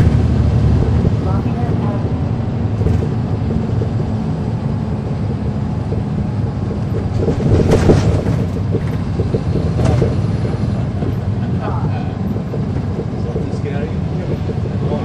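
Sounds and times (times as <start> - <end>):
bus diesel engine rumble: 0.0 - 15.0
knocks and rattles: 0.0 - 15.0.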